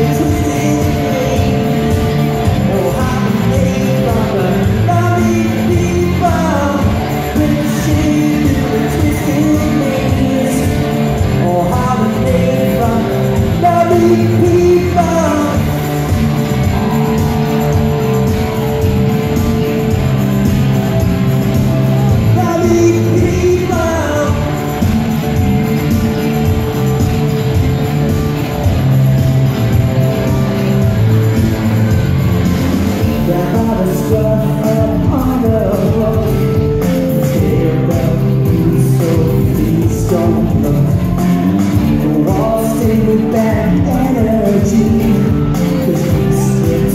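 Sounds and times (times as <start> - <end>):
drums: 0.0 - 46.9
electric guitars: 0.0 - 46.9
person singing: 0.0 - 46.9
rock band playing live: 0.0 - 46.9.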